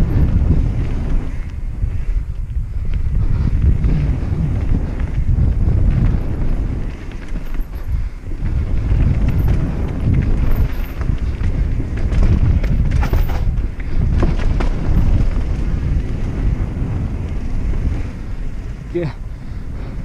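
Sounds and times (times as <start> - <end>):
bike rattling over bumps: 0.0 - 20.0
wind buffeting microphone: 0.0 - 20.0
tyres rumbling on dirt: 3.5 - 20.0.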